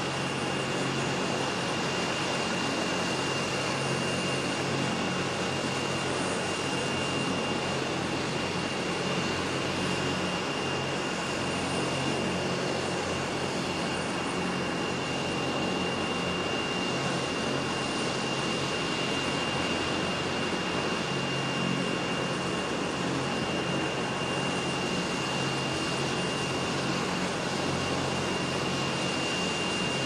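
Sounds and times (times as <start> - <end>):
helicopter turbine engines running: 0.0 - 30.0.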